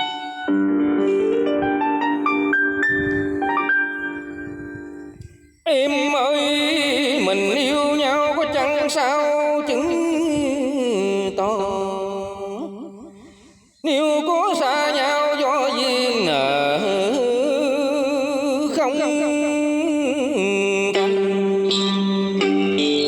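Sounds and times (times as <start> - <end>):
slow ornamented vocal melody: 0.0 - 23.0.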